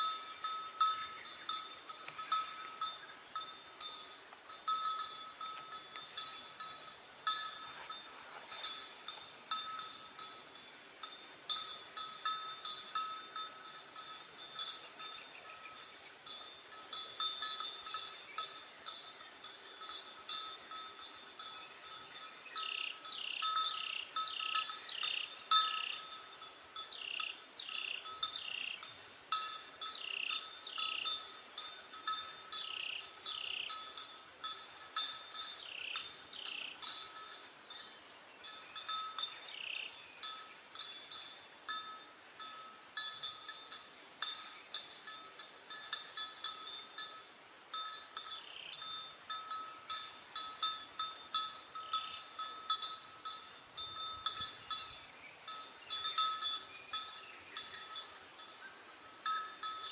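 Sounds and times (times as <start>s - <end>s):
small metal bell clanking: 0.0s - 59.9s.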